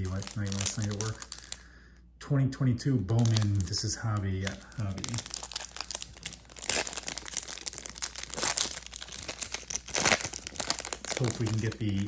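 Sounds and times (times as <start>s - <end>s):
foil wrapper crackling: 0.0s - 1.6s, 3.1s - 12.0s
foil wrapper tearing: 0.0s - 1.6s, 3.1s - 12.0s.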